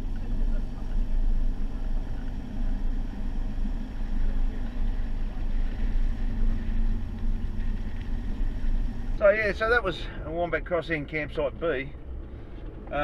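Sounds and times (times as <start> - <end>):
tyres jostling on dirt track: 0.0 - 13.0
vehicle engine drone: 0.0 - 13.0.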